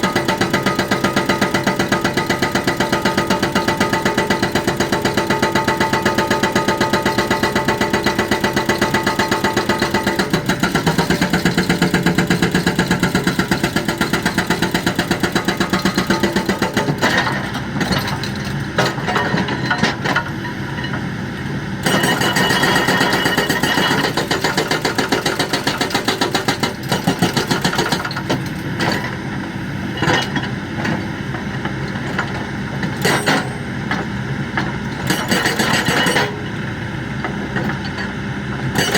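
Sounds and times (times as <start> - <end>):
hydraulic breaker hammering: 0.0 - 21.0, 21.8 - 38.9.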